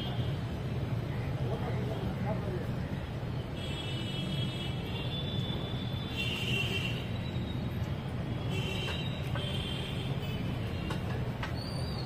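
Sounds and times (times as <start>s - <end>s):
distant traffic rumble: 0.0s - 12.0s.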